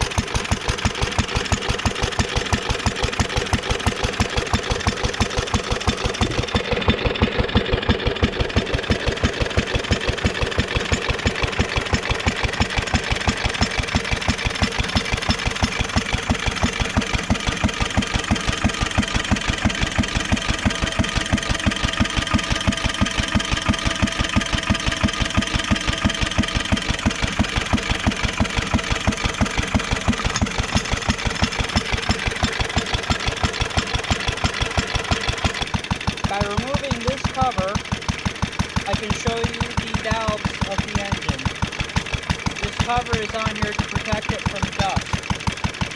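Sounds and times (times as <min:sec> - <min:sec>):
stationary engine running: 0:00.0 - 0:45.9.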